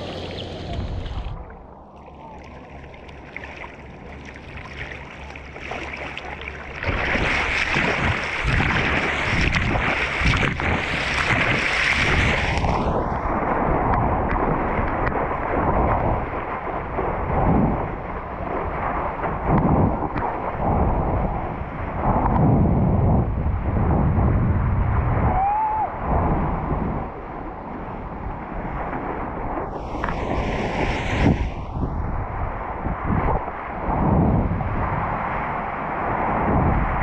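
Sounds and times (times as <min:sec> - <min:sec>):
ocean water rushing: 0:00.0 - 0:37.0
wind rushing past a helmet: 0:06.6 - 0:37.0.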